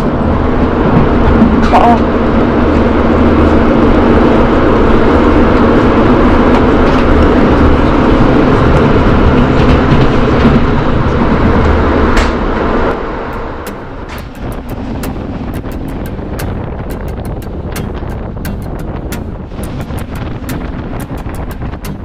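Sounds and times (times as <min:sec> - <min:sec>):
train running along track: 0:00.0 - 0:22.0.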